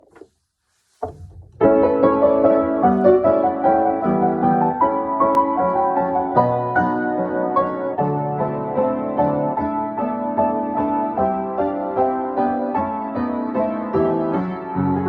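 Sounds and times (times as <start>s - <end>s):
solo piano music: 1.0s - 15.0s.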